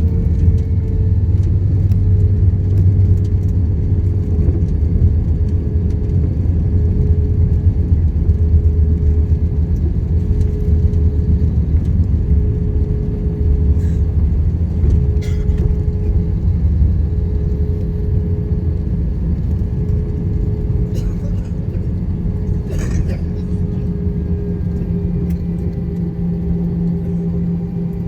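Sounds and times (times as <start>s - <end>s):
airliner cabin rumble: 0.0s - 28.0s
constant hum tone: 0.0s - 28.0s.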